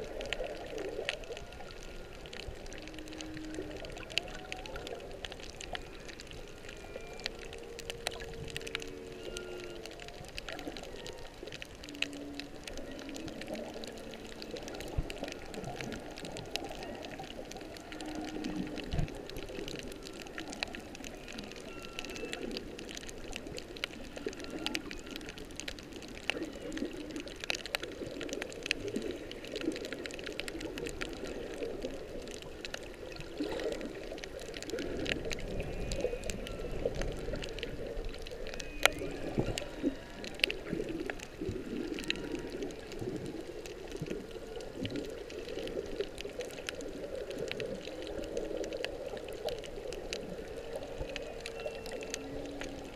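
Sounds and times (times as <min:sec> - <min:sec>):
underwater water noise: 0:00.0 - 0:52.9
whale song: 0:00.0 - 0:52.9.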